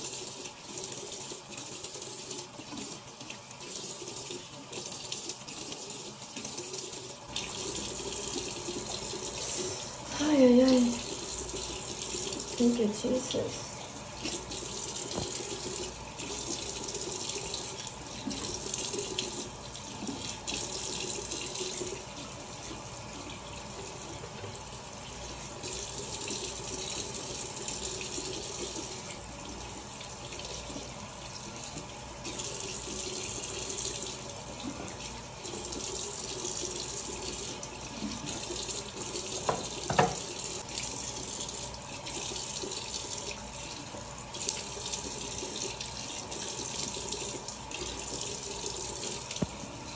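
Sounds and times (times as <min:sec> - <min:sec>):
faucet running: 0:00.0 - 0:49.9.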